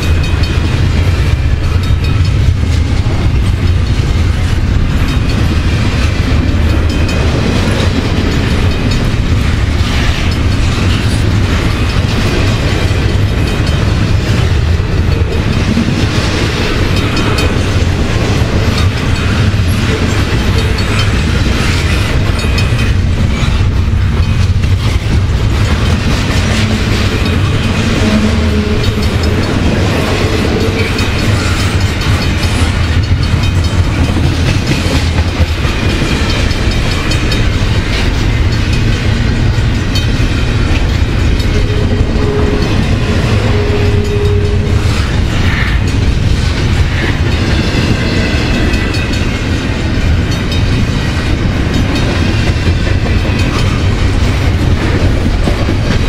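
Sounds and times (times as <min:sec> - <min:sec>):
freight train rumbling past: 0:00.0 - 0:56.0
wheels clacking over rail joints: 0:00.0 - 0:56.0.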